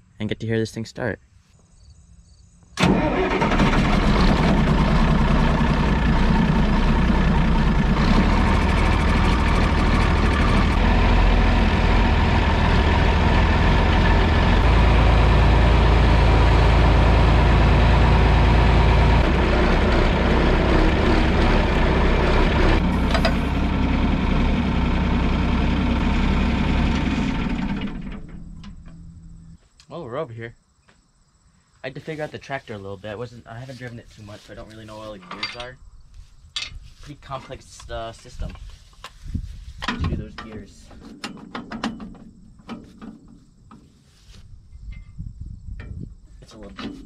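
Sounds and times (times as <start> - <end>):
tractor engine rumbling: 2.8 - 29.6, 31.8 - 47.0.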